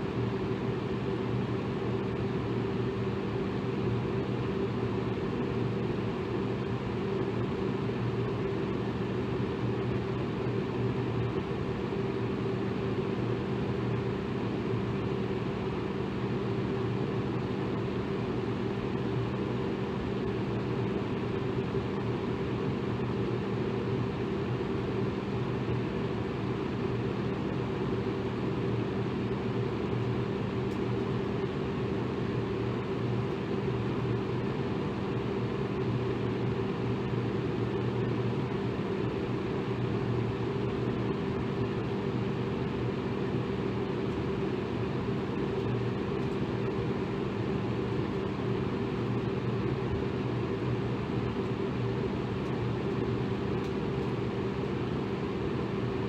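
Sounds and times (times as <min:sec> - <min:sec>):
electric fan whooshing air: 0:00.0 - 0:56.0.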